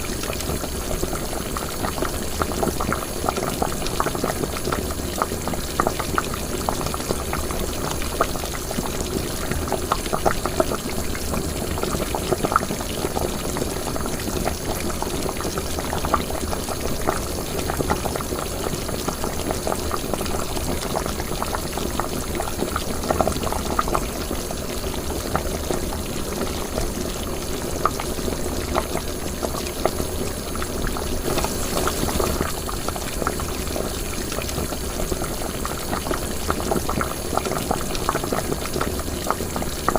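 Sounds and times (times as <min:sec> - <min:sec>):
liquid boiling in a pot: 0:00.0 - 0:39.9.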